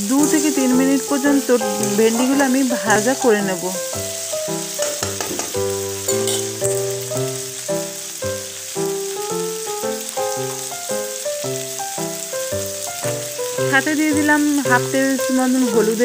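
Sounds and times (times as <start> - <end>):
instrumental background music: 0.0 - 16.0
vegetables sizzling in hot oil: 0.0 - 16.0.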